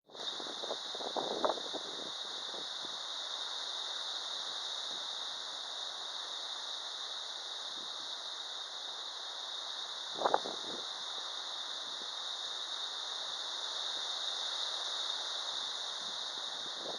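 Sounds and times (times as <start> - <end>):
wind: 0.0 - 16.9
rain hissing: 0.1 - 16.9.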